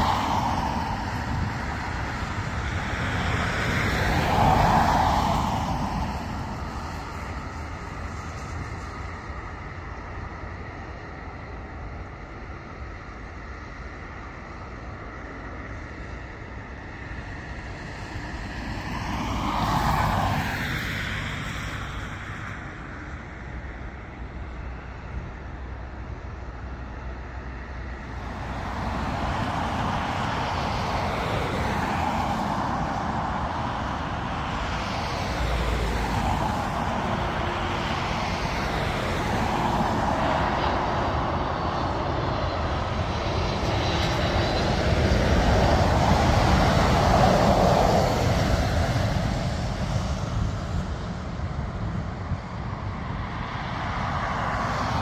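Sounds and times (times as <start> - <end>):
jet airliner engines: 0.0 - 55.0
road traffic rumble: 0.0 - 55.0.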